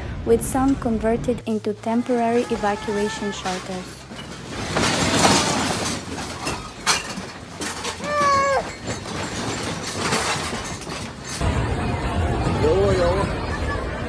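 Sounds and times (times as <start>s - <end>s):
continuous noise: 0.0s - 14.0s.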